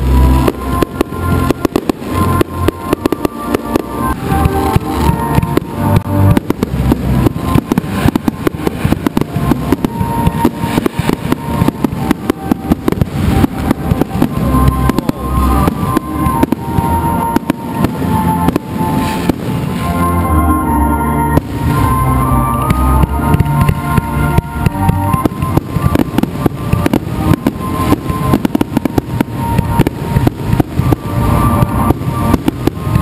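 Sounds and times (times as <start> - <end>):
fireworks bangs: 0.0 - 33.0
music playing: 0.0 - 33.0.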